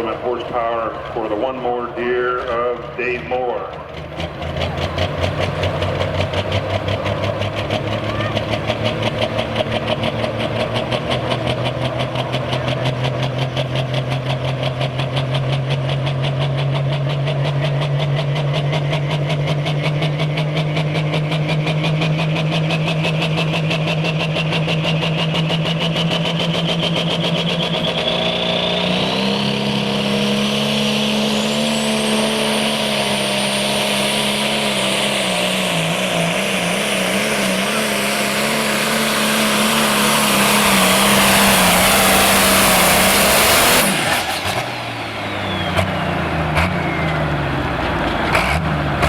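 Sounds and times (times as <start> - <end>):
diesel tractor engine under load: 0.0 - 49.0
turbocharger whine: 0.0 - 49.0.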